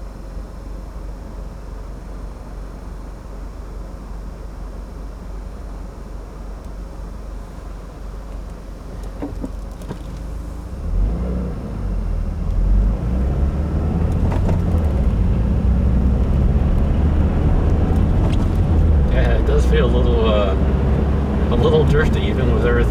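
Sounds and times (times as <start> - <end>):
car engine and tyre rumble: 0.1 - 22.9.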